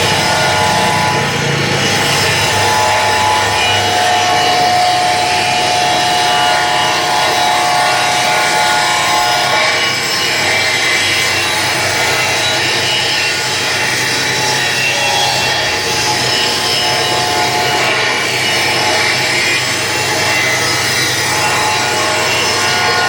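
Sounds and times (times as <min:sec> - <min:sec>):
motor saw cutting wood: 0:00.0 - 0:23.0.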